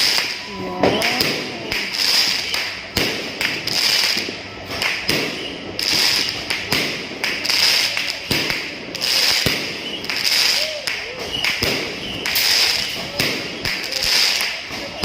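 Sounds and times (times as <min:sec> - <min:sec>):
firecracker crackle: 0:00.0 - 0:15.0
firework bangs: 0:00.0 - 0:15.0.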